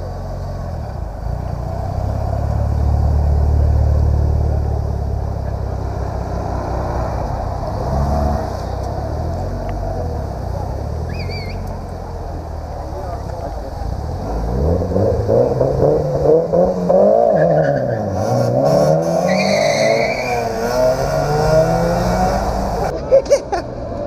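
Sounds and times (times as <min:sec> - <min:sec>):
cars passing with exhaust rumble: 0:00.0 - 0:24.0
street background noise: 0:00.0 - 0:24.0.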